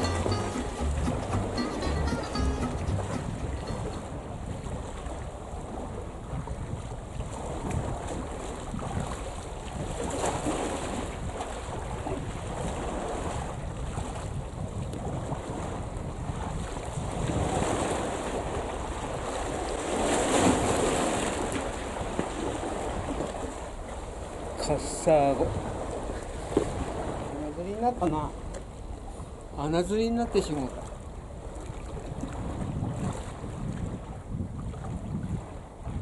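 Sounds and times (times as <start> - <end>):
wind rumbling on microphone: 0.0 - 29.6, 30.6 - 36.0
small waves lapping at shore: 0.0 - 36.0.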